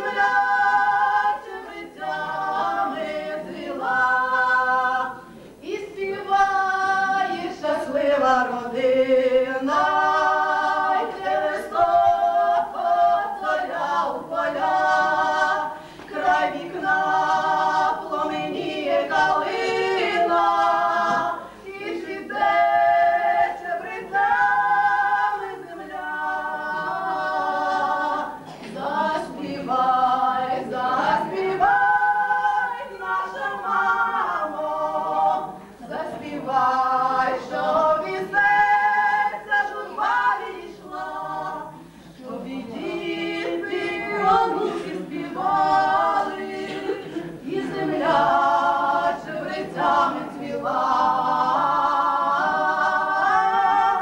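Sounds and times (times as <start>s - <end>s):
two women singing unaccompanied: 0.0s - 54.0s.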